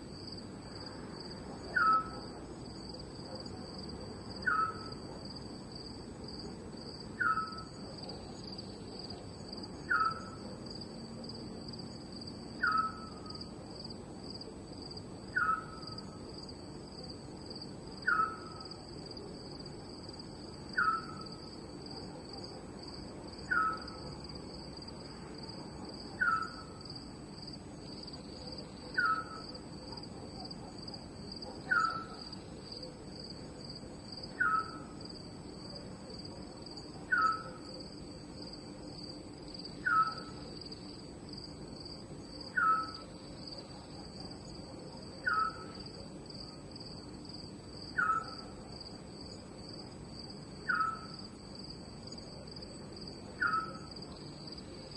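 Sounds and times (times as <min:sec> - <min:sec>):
crickets chirring: 0:00.0 - 0:54.9.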